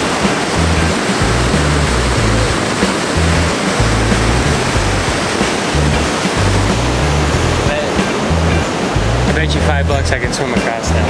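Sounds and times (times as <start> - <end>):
background music with bass: 0.0 - 11.0
river rapids rushing: 0.0 - 11.0.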